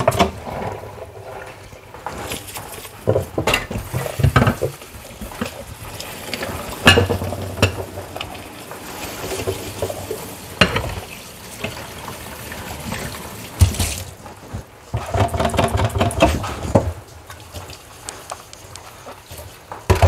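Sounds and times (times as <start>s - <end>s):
objects knocking and clunking: 0.0s - 20.0s
rustling and scraping: 0.0s - 20.0s.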